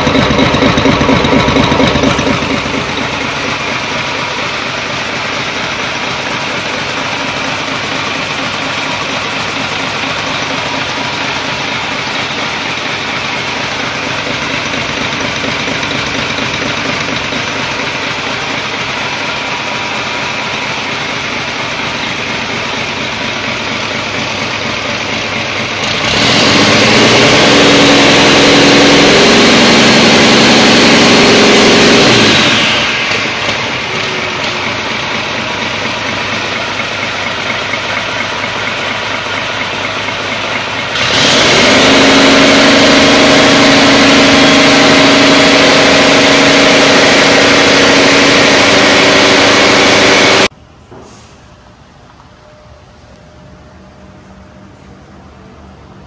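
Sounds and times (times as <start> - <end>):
diesel engine idling and revving: 0.0 - 50.9.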